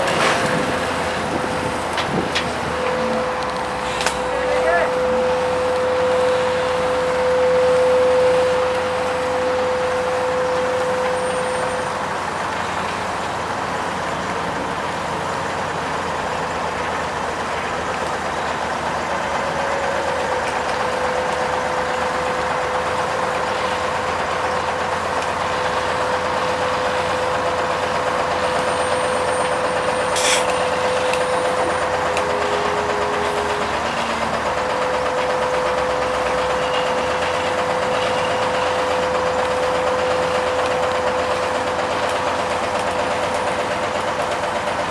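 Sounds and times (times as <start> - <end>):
diesel paving machinery running: 0.0 - 44.9.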